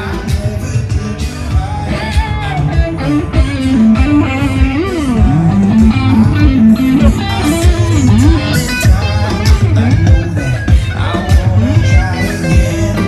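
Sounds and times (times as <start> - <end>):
bass guitar: 0.0 - 13.0
steady kick drum: 0.3 - 12.7
lead electric guitar melody: 1.7 - 13.0.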